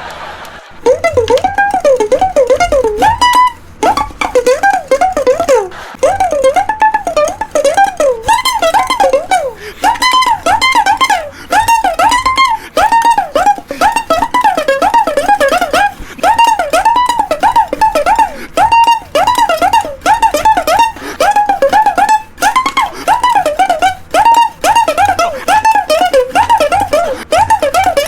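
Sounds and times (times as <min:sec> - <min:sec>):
plucked string instrument melody: 0:00.7 - 0:28.0.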